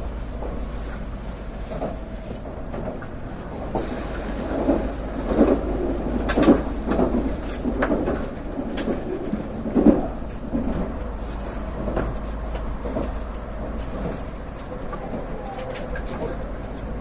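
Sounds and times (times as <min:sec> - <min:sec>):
train interior rumble: 0:00.0 - 0:17.0
train thuds: 0:00.0 - 0:17.0.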